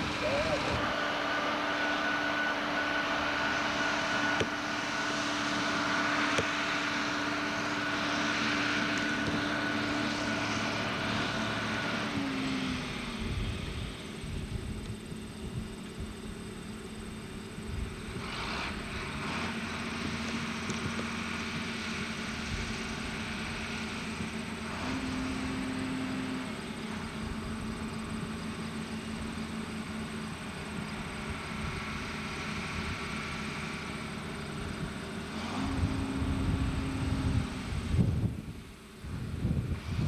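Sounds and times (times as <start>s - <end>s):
diesel engines running: 0.0s - 40.0s.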